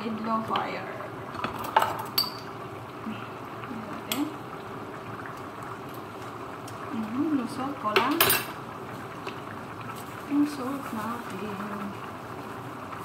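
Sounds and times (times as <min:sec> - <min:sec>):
sauce bubbling in a pot: 0:00.1 - 0:13.0.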